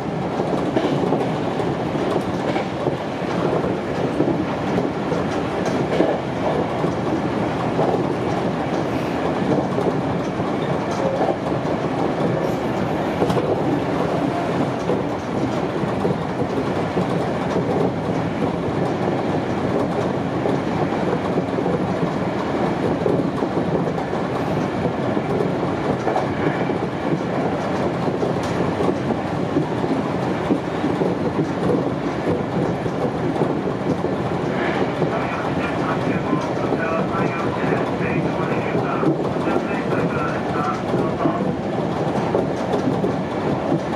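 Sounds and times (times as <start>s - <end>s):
clickety-clack over track: 0.0s - 43.9s
train wheels on rail: 0.0s - 43.9s.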